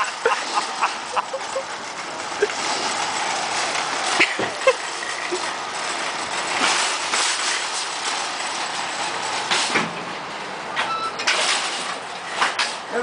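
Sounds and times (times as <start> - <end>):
shopping cart rattling on asphalt: 0.0 - 13.0.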